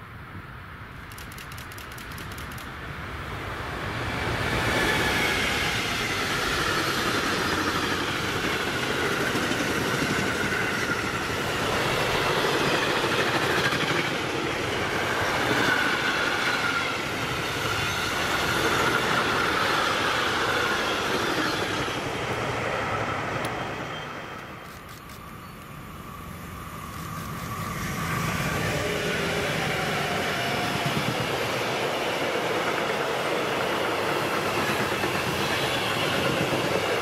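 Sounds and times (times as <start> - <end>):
freight train rolling past: 0.8 - 37.0.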